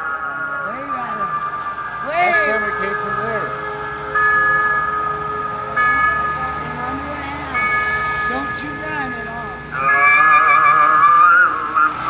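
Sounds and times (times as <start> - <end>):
vehicle siren warbling: 0.0 - 12.0.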